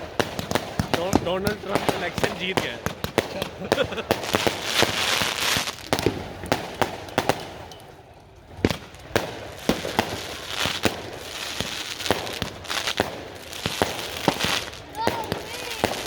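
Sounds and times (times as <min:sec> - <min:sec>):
fireworks bangs and pops: 0:00.0 - 0:16.0
fireworks crackling: 0:00.0 - 0:16.0.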